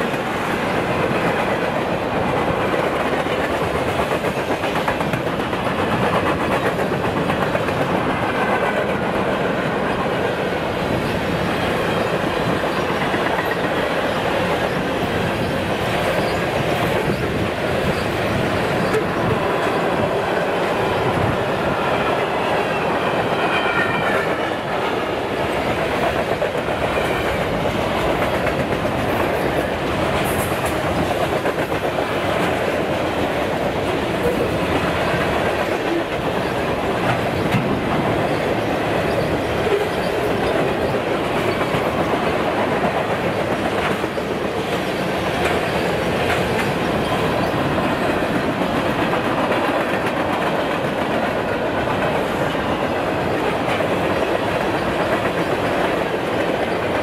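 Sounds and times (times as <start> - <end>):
train rumble: 0.0 - 57.0
train wheels clacking over rail joints: 0.0 - 57.0.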